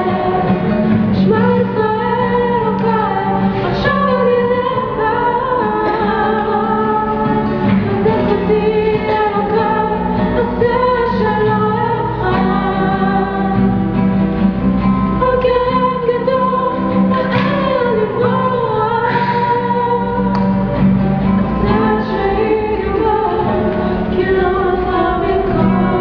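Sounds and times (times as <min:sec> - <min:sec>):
classical guitar: 0:00.0 - 0:26.0
girl singing: 0:01.2 - 0:07.4, 0:08.0 - 0:13.8, 0:15.2 - 0:20.4, 0:21.6 - 0:26.0.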